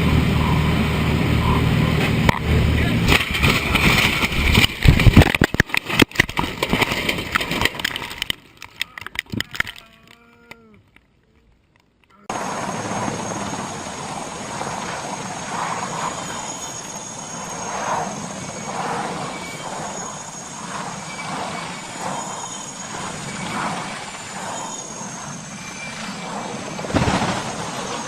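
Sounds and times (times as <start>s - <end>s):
aircraft engine noise: 0.0s - 10.4s, 12.2s - 28.0s.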